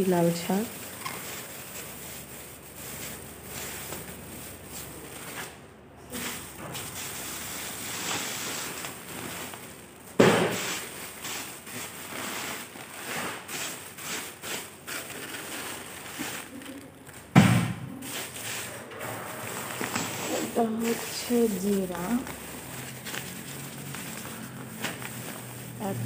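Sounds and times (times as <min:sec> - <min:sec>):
plastic bags crinkling and rustling: 0:00.0 - 0:26.0.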